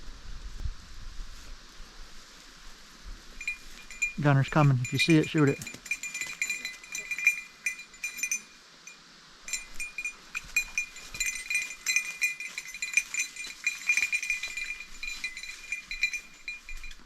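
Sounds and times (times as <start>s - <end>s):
dog bell jingling: 3.4s - 17.0s.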